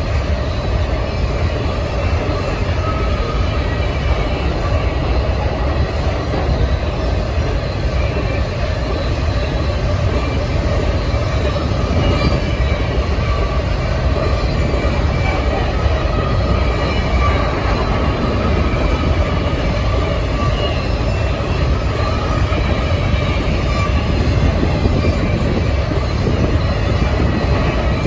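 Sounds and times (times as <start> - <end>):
faint wheel squeals: 0.0 - 28.0
freight train wheels rumbling: 0.0 - 28.0.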